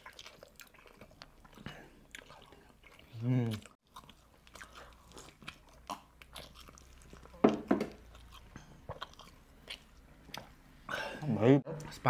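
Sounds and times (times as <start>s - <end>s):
chewing and mouth smacking: 0.0s - 11.0s.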